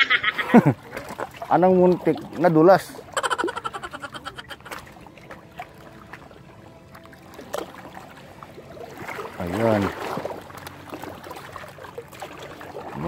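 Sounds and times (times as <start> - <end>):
water sounds: 0.0 - 13.0.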